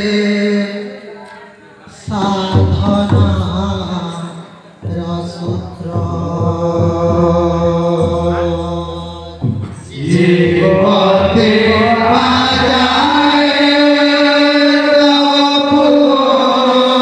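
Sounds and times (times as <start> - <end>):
men chanting in unison: 1.9 - 17.0.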